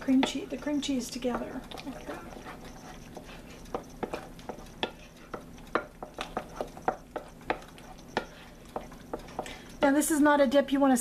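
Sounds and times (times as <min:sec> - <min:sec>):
soft stirring in a bowl: 0:00.0 - 0:10.4
utensil knocking against bowl: 0:00.1 - 0:09.6.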